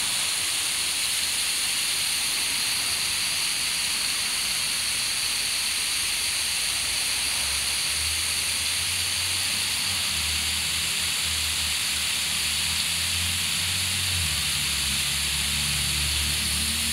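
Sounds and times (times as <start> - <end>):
hose water spraying on grass: 0.0 - 16.9.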